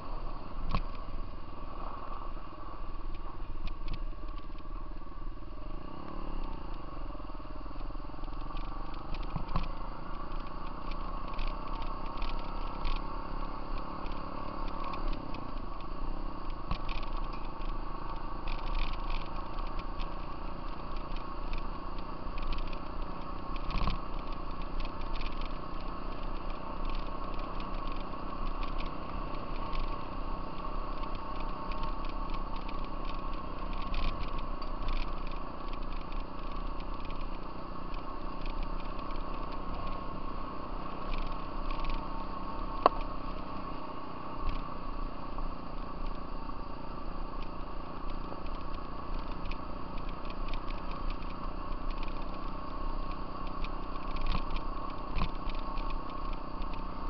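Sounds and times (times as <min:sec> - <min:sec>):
off-road vehicle engine drone: 0:00.0 - 0:57.0.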